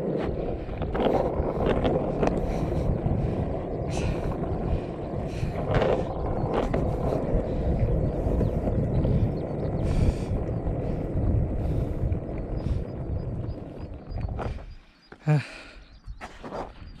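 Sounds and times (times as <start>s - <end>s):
longboard wheels rolling on asphalt: 0.0s - 17.0s
wind buffeting microphone: 0.0s - 17.0s.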